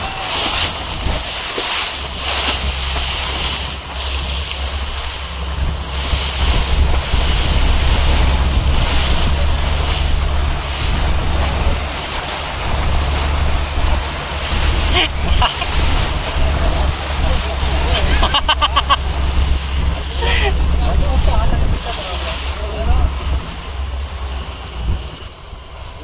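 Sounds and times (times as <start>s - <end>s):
boat engine drone: 0.0s - 26.0s
sea water rushing: 0.0s - 26.0s
wind buffeting microphone: 0.0s - 26.0s.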